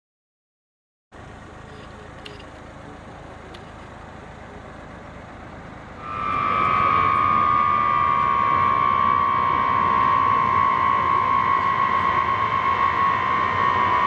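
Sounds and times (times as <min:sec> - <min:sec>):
jet engines high whine: 0:01.2 - 0:14.0
rushing engine noise: 0:01.2 - 0:14.0.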